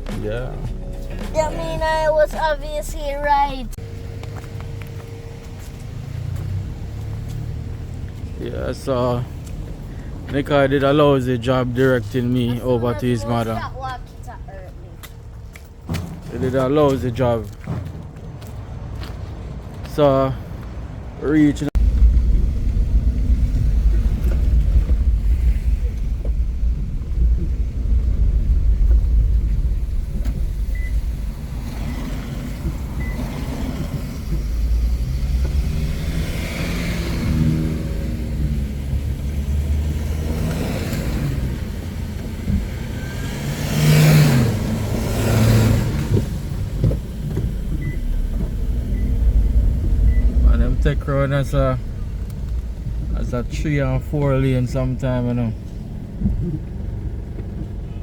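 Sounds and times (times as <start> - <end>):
car engine and tyres rumbling: 0.0 - 58.0
passing traffic: 0.0 - 58.0.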